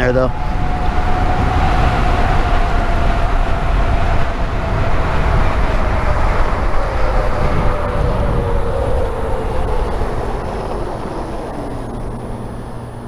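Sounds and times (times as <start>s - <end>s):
low rumble of wind and tyres: 0.0s - 13.0s
electric bike motor whining: 0.4s - 13.0s.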